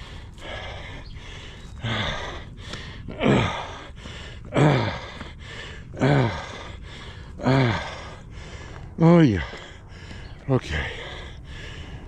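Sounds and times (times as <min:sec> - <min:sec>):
man breathing hard: 0:00.0 - 0:12.0.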